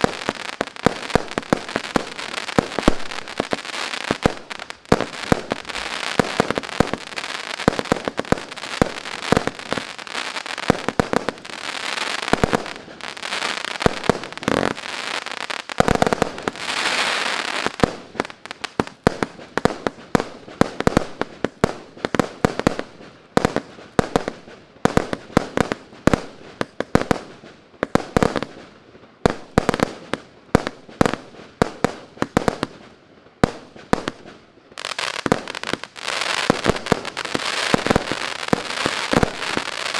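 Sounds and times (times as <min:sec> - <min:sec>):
fireworks shots: 0:00.0 - 0:28.6, 0:33.4 - 0:39.9
crackling hiss: 0:00.0 - 0:39.9.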